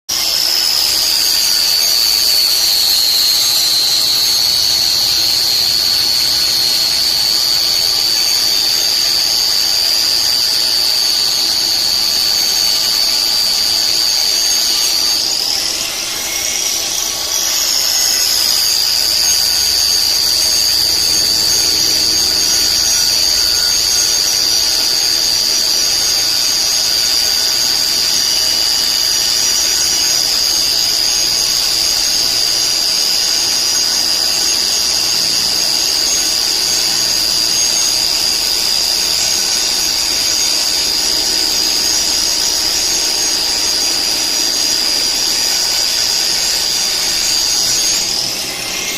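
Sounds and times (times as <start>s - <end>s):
power tool whining: 0.1s - 48.9s.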